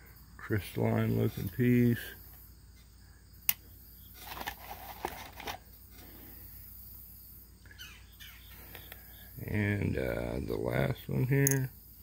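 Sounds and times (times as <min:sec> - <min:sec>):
low steady background: 0:00.0 - 0:12.0.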